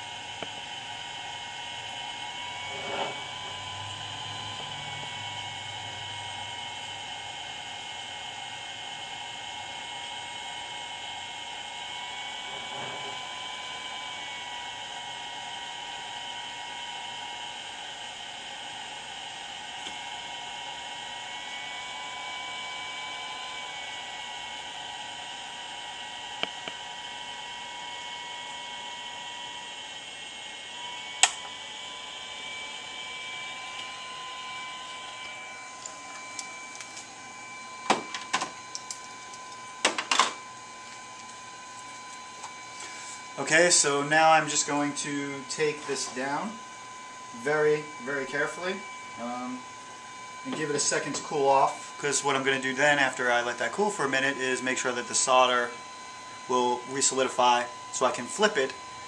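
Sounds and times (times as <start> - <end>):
cooling fans whining: 0.0 - 59.0.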